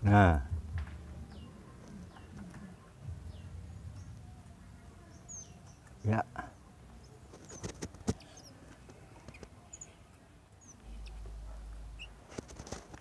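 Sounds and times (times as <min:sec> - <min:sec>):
young birds chirping: 0:00.5 - 0:12.4.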